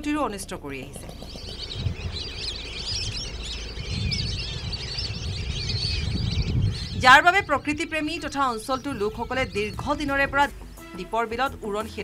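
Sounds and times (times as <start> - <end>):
low rumble: 0.0 - 10.8
small birds chirping and twittering: 0.7 - 12.0.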